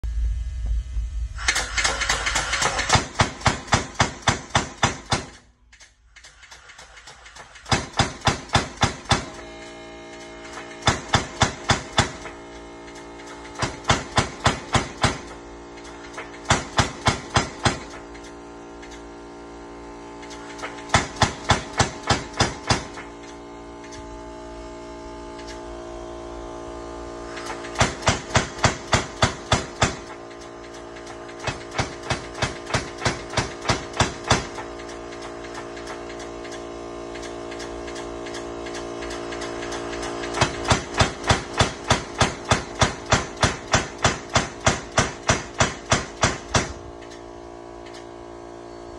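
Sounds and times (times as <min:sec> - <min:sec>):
steady hum: 0:00.0 - 0:48.9
power hammer metal blows: 0:01.4 - 0:05.5, 0:06.1 - 0:19.0, 0:20.2 - 0:24.3, 0:27.3 - 0:47.2.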